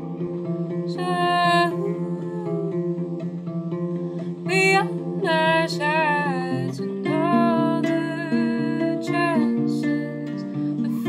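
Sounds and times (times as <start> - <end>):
classical guitar picking: 0.0 - 11.0
woman singing: 0.9 - 11.0.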